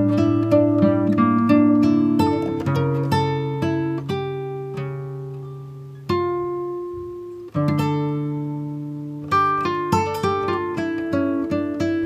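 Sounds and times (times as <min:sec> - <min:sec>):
acoustic guitar slow chords: 0:00.0 - 0:12.0.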